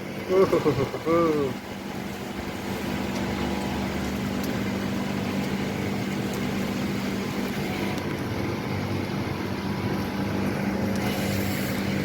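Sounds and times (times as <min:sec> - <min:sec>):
heavy rain falling: 0:00.0 - 0:12.0
steady machine hum: 0:00.0 - 0:12.0.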